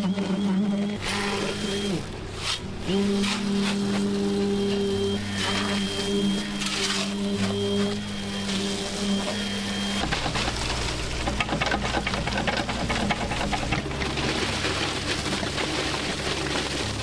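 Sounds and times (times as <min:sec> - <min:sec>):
excavator engine running: 0:00.0 - 0:17.0
wet concrete pouring and rattling: 0:00.0 - 0:17.0.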